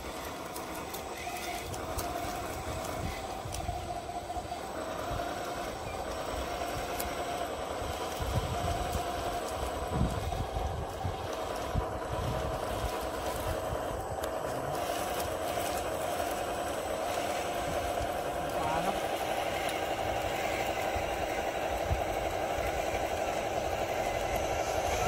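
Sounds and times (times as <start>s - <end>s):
small model engine running: 0.0s - 25.0s
tracks crawling through dry leaves: 0.0s - 25.0s.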